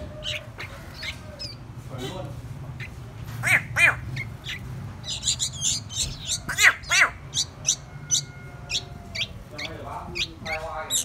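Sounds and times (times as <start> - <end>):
young birds squawking: 0.0 - 11.0
high bird chirps: 0.1 - 1.7, 2.7 - 11.0.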